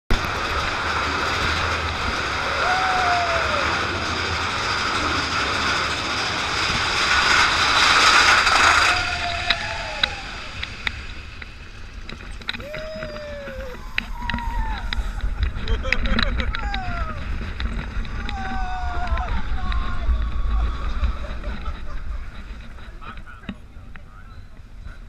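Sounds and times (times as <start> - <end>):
roller coaster rushing on track: 0.1 - 25.0.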